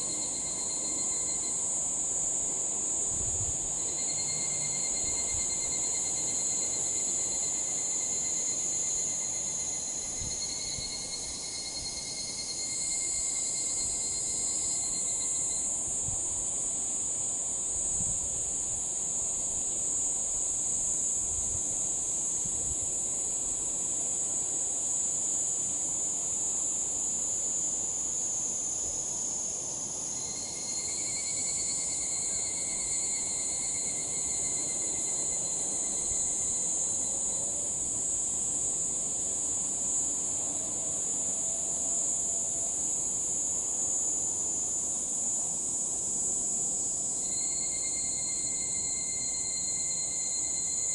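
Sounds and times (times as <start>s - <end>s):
cicadas chorus shrilling: 0.0s - 50.9s.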